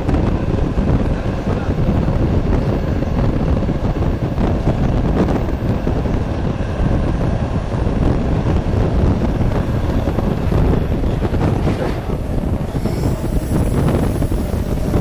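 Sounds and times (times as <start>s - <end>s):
train rumbling in tunnel: 0.0s - 15.0s
wind buffeting microphone: 0.0s - 15.0s.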